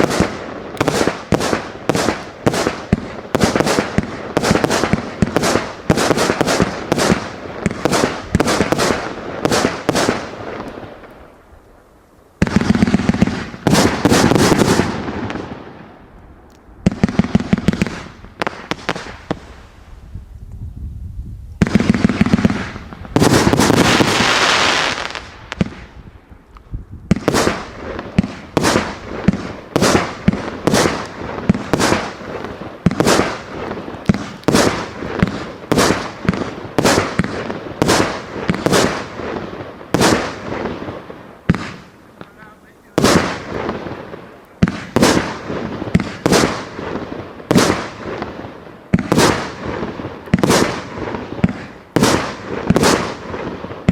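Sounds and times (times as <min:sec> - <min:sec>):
fireworks cake firing: 0:00.0 - 0:11.4, 0:12.4 - 0:20.0, 0:21.5 - 0:53.9
rapid fireworks pops and hiss: 0:00.0 - 0:53.9.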